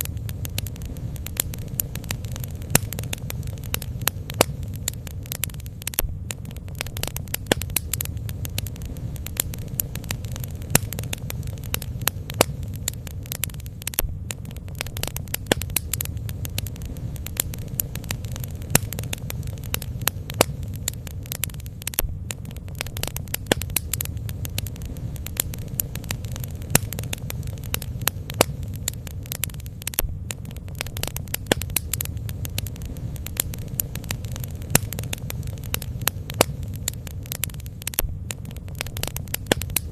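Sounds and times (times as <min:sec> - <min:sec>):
bonfire crackling and popping: 0:00.0 - 0:39.9
low fire rumble: 0:00.0 - 0:39.9.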